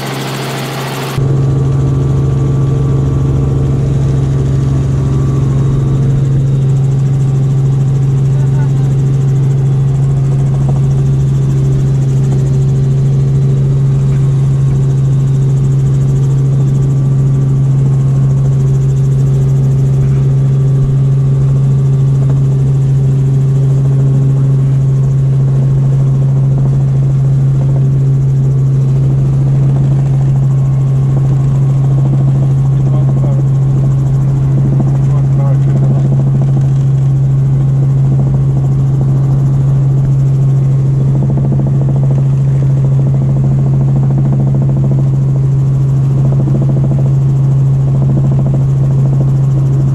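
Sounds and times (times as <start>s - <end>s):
helicopter engine and rotors drone: 0.0s - 49.9s.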